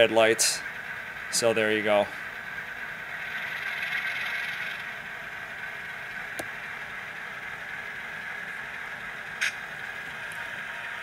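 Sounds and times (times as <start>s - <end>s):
model locomotive diesel sound: 0.0s - 11.0s
motor and wheel noise: 0.0s - 11.0s.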